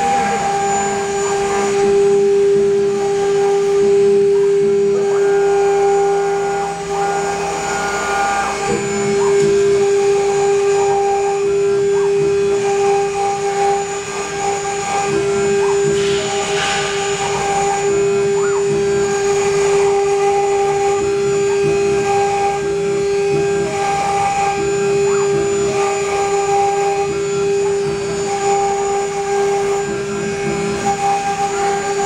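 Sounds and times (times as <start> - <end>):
hiss of cutting wood: 0.0 - 32.0
router spindles whining: 0.0 - 32.0.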